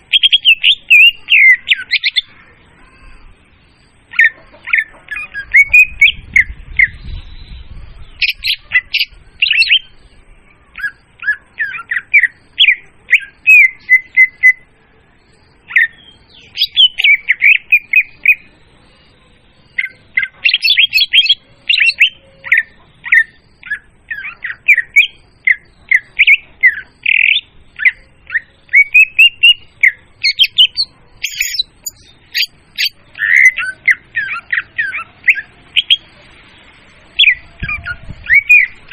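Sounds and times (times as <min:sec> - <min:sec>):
bird chirping and whistling: 0:00.0 - 0:02.3, 0:02.9 - 0:10.1, 0:10.7 - 0:14.7, 0:15.7 - 0:36.1, 0:37.2 - 0:38.9.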